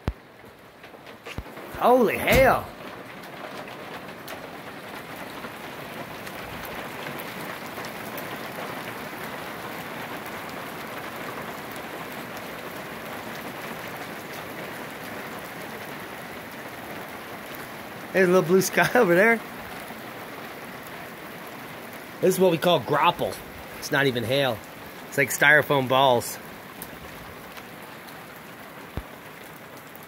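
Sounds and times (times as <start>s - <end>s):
hail pellets ticking: 0.0s - 30.0s
soft hail pattering: 0.0s - 30.0s.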